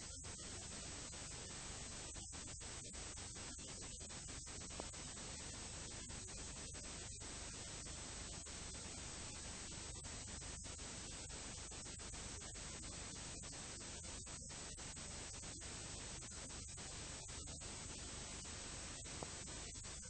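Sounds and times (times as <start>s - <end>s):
faint low hum: 0.0s - 20.0s
hiss and static: 0.0s - 20.0s.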